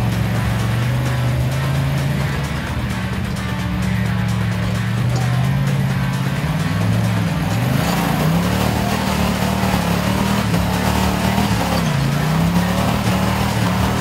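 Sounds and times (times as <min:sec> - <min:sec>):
engine revving under load: 0:00.0 - 0:14.0.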